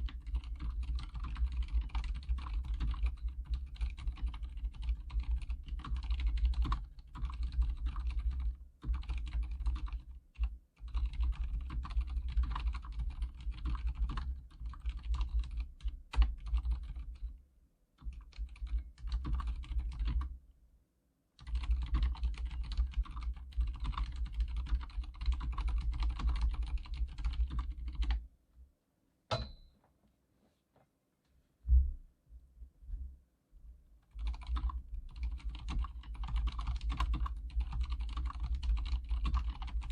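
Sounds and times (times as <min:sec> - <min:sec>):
keyboard typing: 0:00.0 - 0:17.3, 0:18.0 - 0:20.3, 0:21.4 - 0:28.2, 0:34.0 - 0:39.9.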